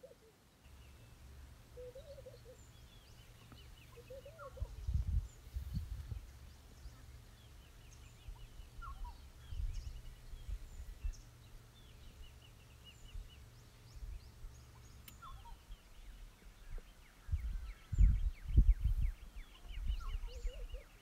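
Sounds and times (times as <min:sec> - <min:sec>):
birds calling with high chirps: 0:00.0 - 0:21.0.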